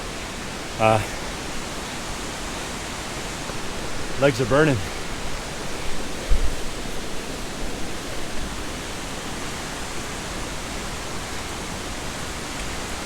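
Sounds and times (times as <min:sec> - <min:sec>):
river water and waterfalls rushing: 0:00.0 - 0:13.0.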